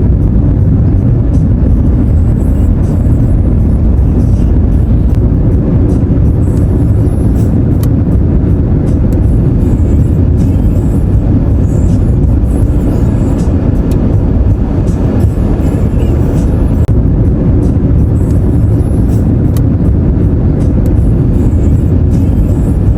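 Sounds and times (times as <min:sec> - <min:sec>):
car driving on road: 0:00.0 - 0:22.9.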